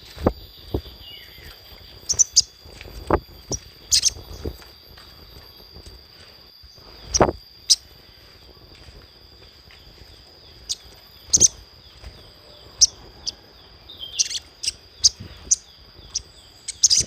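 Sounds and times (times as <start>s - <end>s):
bird chirping: 0.0s - 6.0s, 6.6s - 8.4s, 9.1s - 17.0s.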